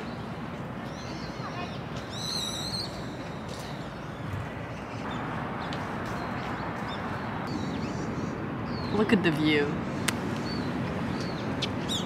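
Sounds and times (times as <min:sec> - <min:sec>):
city park background hum: 0:00.0 - 0:12.0.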